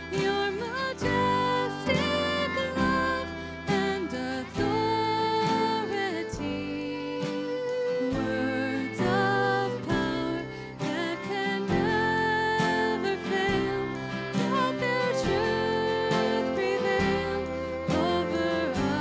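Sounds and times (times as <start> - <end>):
instrumental accompaniment: 0.0 - 19.0
woman singing a hymn: 0.0 - 19.0.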